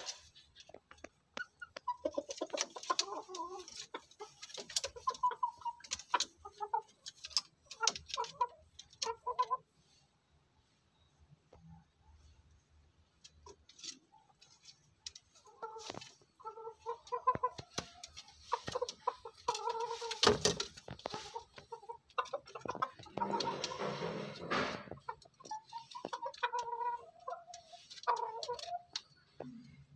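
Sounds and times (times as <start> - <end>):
chickens clucking: 0.0 - 10.3, 11.4 - 29.9.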